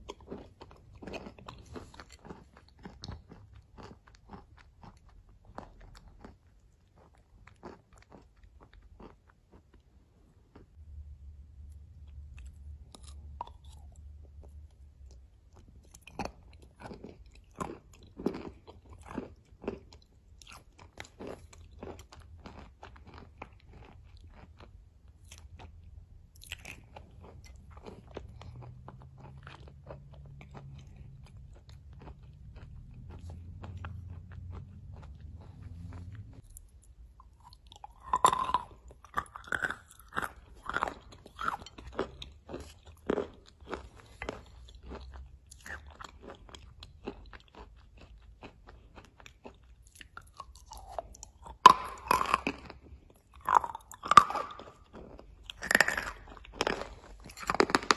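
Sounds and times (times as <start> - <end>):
close chewing and crunching: 0.0 - 57.9.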